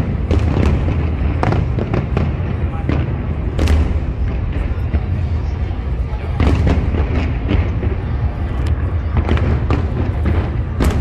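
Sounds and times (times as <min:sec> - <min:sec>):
fireworks booms and bangs: 0:00.0 - 0:11.0.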